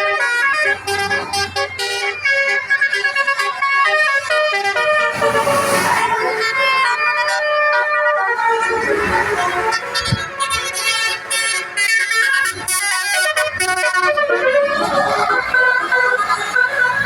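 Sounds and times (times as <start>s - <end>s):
multi-tone bus horn melody: 0.0s - 17.0s.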